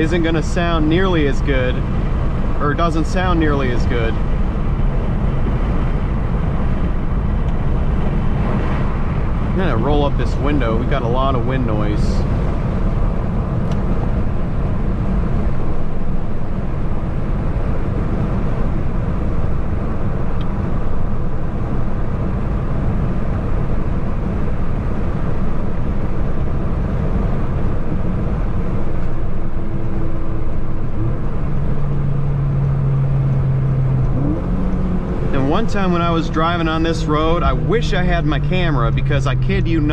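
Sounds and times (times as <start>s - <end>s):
car engine and road noise: 0.0s - 39.9s
steady low hum: 0.0s - 39.9s.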